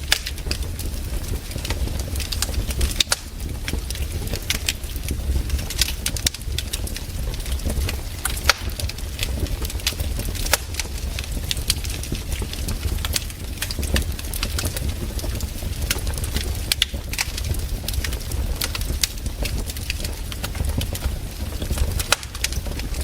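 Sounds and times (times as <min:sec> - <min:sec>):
campfire crackling and popping: 0:00.0 - 0:23.0
low rumble of fire: 0:00.0 - 0:23.0.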